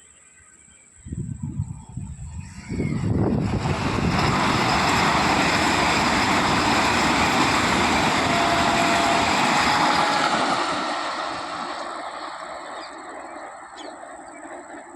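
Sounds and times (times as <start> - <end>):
train wheels rushing on rails: 2.4 - 14.9.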